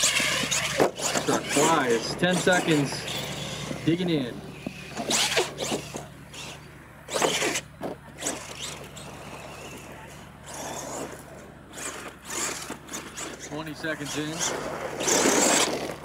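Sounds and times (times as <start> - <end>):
toy truck motor revving: 0.0 - 16.0
tyres spinning in dirt: 0.0 - 16.0.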